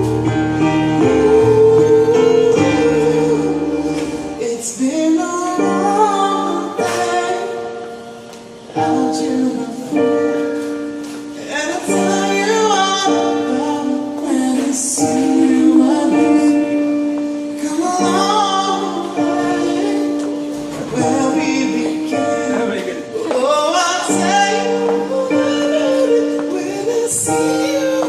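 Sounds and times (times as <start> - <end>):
person singing long notes: 0.0 - 28.0
sustained instrumental chords: 0.0 - 28.0.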